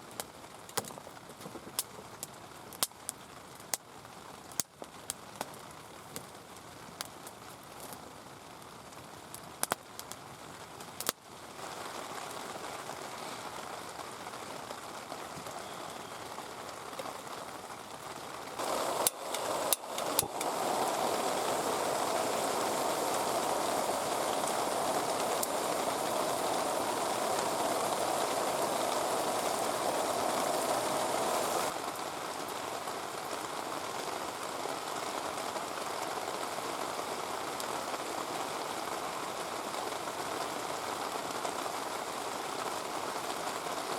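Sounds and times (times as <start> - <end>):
heavy rain falling: 8.1 - 43.9.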